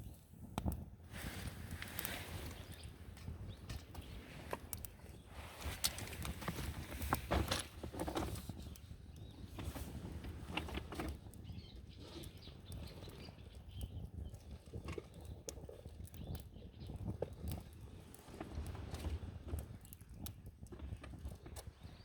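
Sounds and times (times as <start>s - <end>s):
burning wood popping: 0.0s - 22.0s
campfire crackling: 0.0s - 22.0s.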